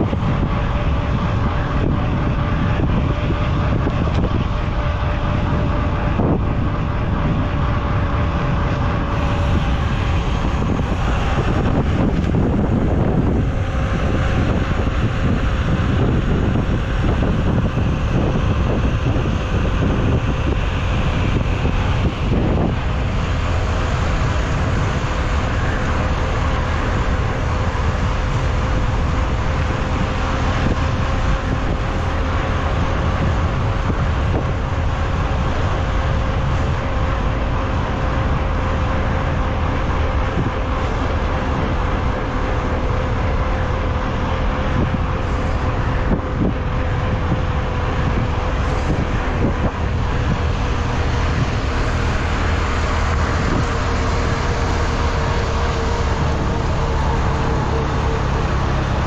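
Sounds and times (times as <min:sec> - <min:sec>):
tyres rumbling on dirt: 0:00.0 - 0:59.0
wind on microphone: 0:00.0 - 0:59.0.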